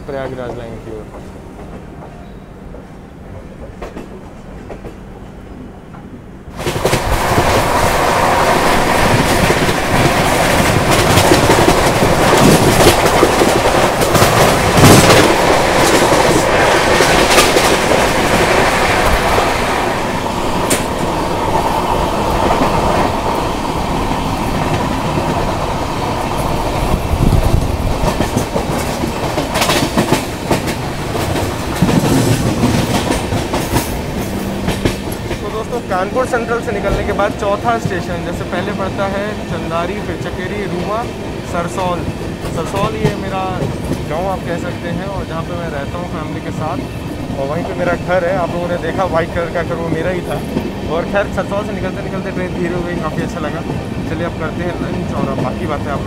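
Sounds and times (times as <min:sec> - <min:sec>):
train running noise: 0:00.0 - 0:56.0
wheels clacking over rails: 0:06.6 - 0:56.0.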